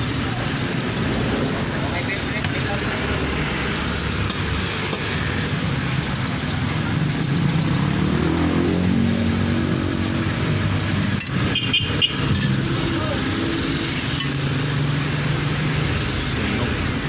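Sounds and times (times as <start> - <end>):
street traffic noise: 0.0 - 17.0
vehicle engine running: 0.0 - 17.0.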